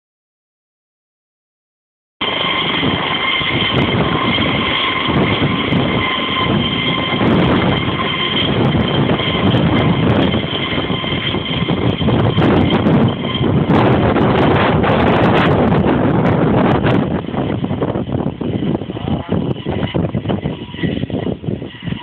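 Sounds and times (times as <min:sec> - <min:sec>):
helicopter rotor noise: 0:02.2 - 0:22.0
helicopter turbine whine: 0:02.2 - 0:22.0.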